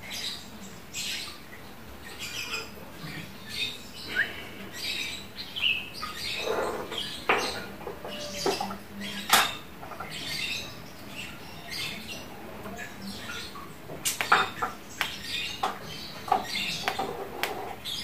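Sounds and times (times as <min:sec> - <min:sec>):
lovebird chirping and chattering: 0:02.1 - 0:18.0.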